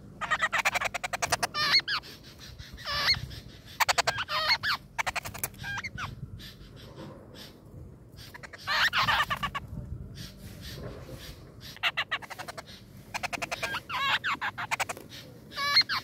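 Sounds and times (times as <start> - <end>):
nestling birds begging: 0.0 - 16.0.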